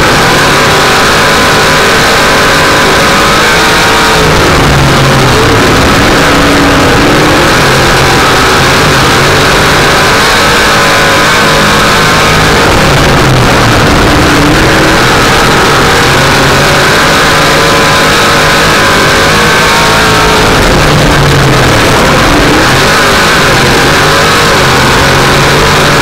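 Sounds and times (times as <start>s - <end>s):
race car engine running hard: 0.0s - 26.0s.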